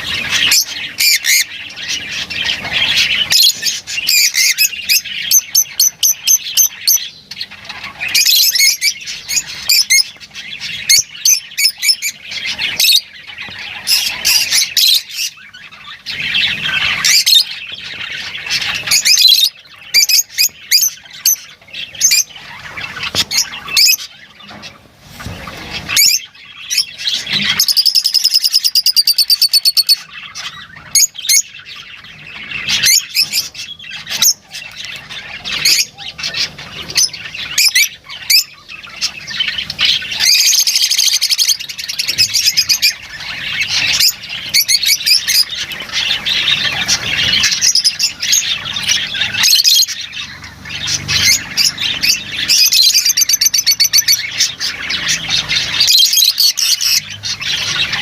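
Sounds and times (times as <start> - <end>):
lovebirds chattering and chirping: 0.0 - 58.0.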